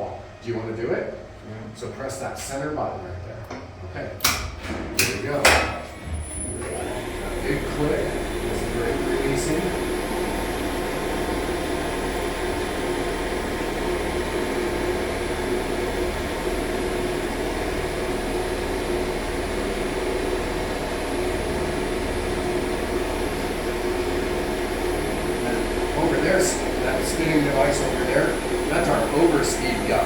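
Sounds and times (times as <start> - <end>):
elevator machine hum: 2.6 - 30.0.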